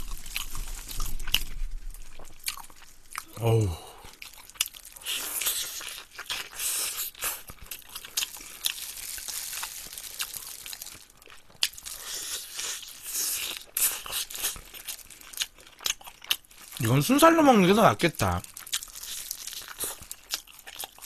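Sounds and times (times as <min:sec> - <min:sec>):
chewing crunchy chicken: 0:00.0 - 0:21.0.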